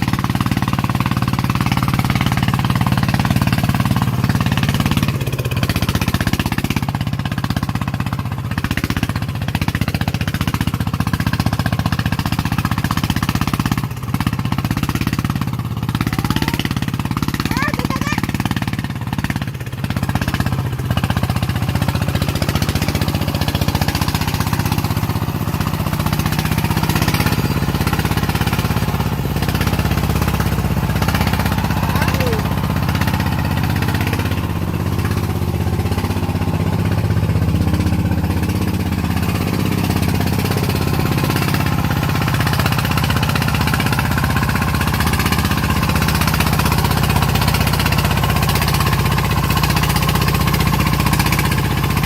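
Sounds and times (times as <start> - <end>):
diesel engine chugging: 0.0 - 52.0.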